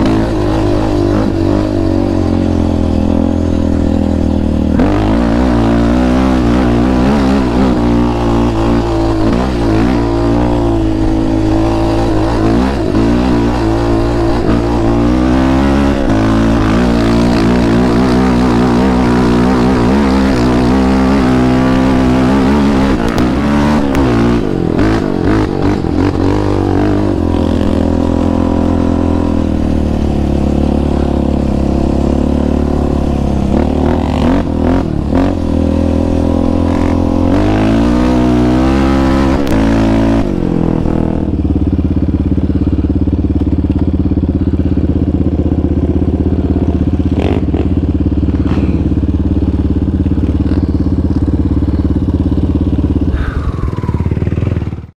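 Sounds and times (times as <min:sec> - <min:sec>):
atv engine revving and idling: 0:00.0 - 0:54.9.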